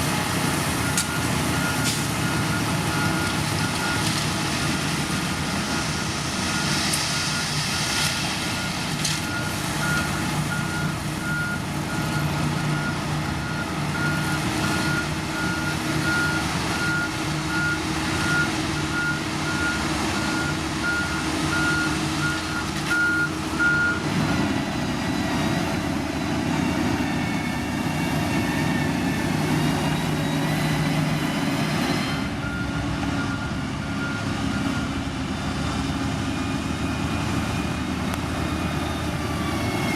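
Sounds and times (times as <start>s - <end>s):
reversing alarm beeping: 0.7s - 35.2s, 36.4s - 39.9s.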